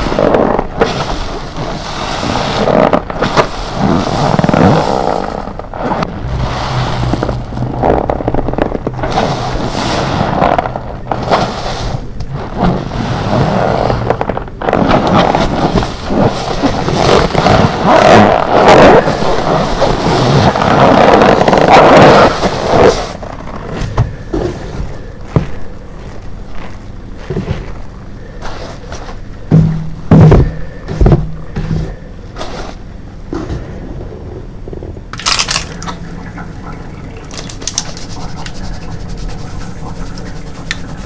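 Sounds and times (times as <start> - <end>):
rubber gloves rubbing: 0.0 - 33.8, 35.0 - 41.0
sponge squelching: 0.0 - 33.8, 35.2 - 41.0.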